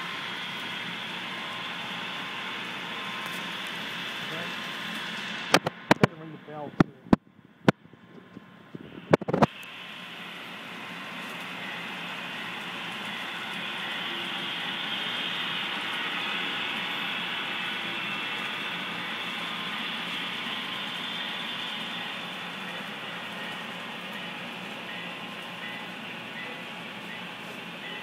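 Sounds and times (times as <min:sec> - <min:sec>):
model locomotive running: 0:00.0 - 0:06.8, 0:09.0 - 0:28.0.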